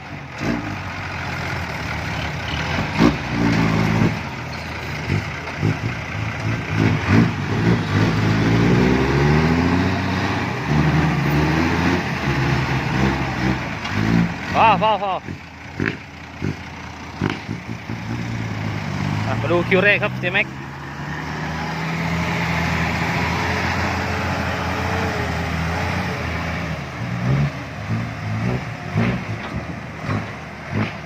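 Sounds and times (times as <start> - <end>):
heavy diesel engine revving: 0.0 - 31.0.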